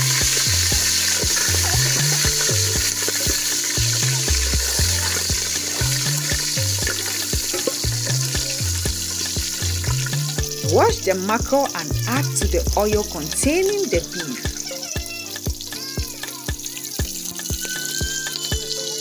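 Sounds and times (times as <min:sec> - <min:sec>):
background music with bass: 0:00.0 - 0:19.0
beef sizzling in hot oil: 0:00.0 - 0:19.0.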